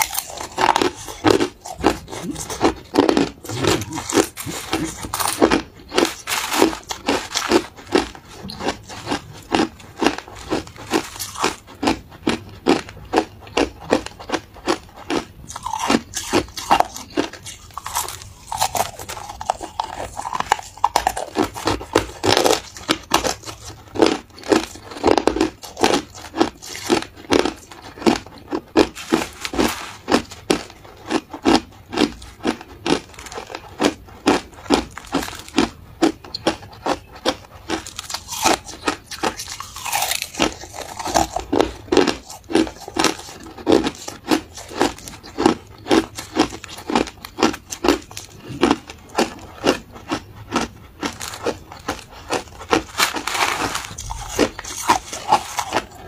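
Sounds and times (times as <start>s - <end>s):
person crunching ice: 0.0s - 56.0s.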